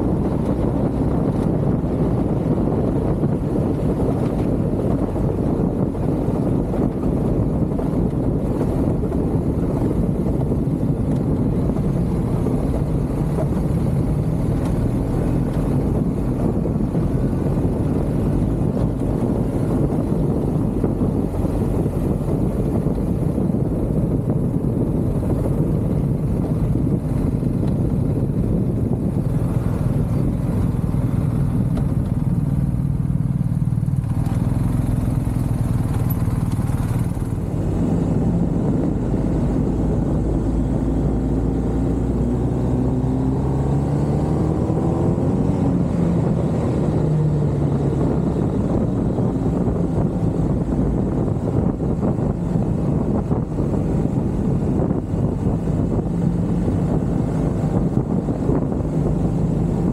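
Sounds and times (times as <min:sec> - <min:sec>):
vehicle engine running: 0:00.0 - 0:59.9
wind on microphone: 0:00.0 - 0:59.9.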